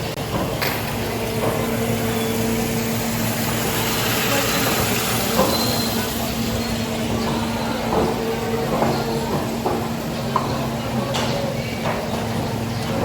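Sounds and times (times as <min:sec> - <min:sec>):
engine running with pitched hum: 0:00.0 - 0:13.0.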